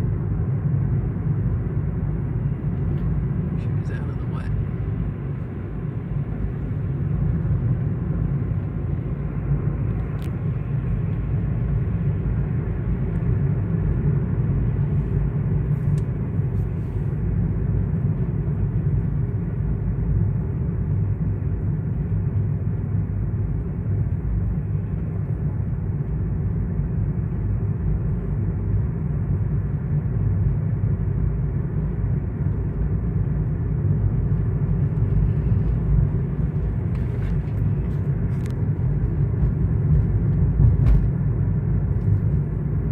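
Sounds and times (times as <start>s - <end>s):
deep engine running: 0.0s - 42.9s.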